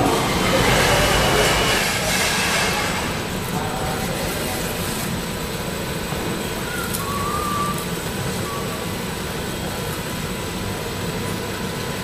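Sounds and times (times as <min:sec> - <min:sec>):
wrapping machine mechanical hum: 0:00.0 - 0:12.0.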